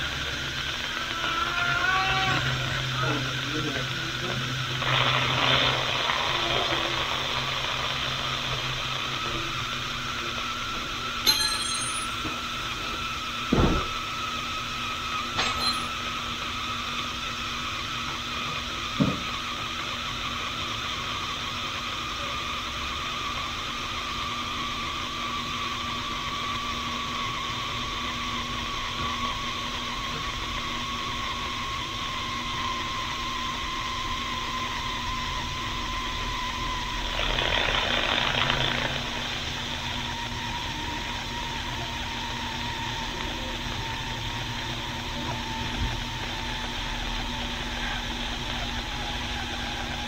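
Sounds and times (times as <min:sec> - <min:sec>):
pressure cooker venting steam: 0:00.0 - 0:11.3, 0:12.1 - 0:50.0.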